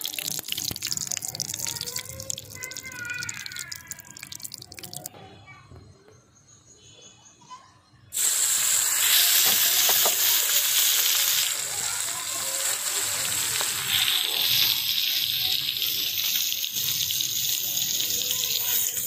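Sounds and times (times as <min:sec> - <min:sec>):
fish sizzling in hot oil: 0:00.0 - 0:05.1, 0:08.2 - 0:19.0.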